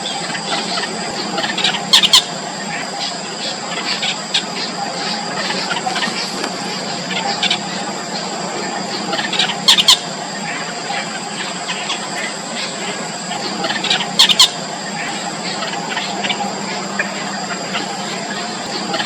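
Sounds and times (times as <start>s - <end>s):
bird chicks squealing: 0.0s - 19.0s.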